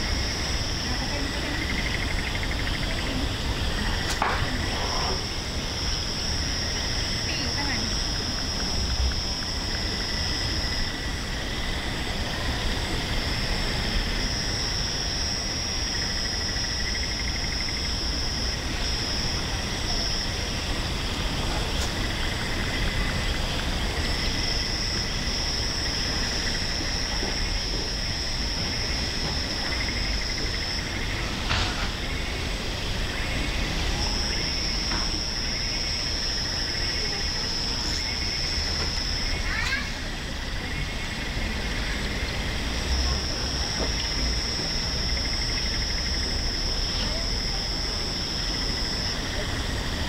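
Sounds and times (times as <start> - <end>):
high insect trill: 0.0 - 50.0
lower pulsing insect trill: 0.0 - 50.0.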